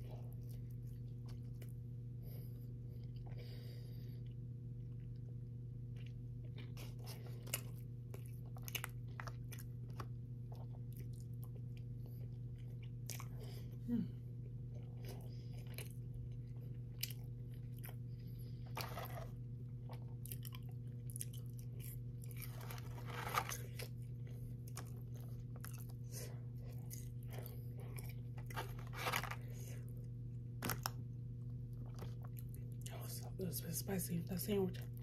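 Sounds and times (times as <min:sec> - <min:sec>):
chewing and crunching fried chicken: 0:00.0 - 0:35.0
steady low hum: 0:00.0 - 0:35.0.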